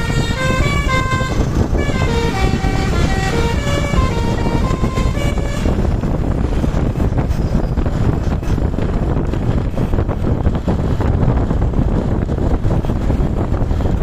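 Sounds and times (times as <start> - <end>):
road and engine rumble: 0.0 - 14.0
wind buffeting microphone: 0.0 - 14.0.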